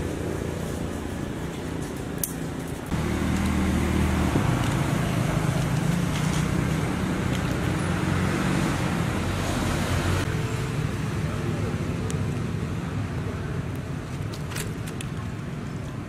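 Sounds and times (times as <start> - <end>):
vehicle engine running steadily: 0.0 - 16.0.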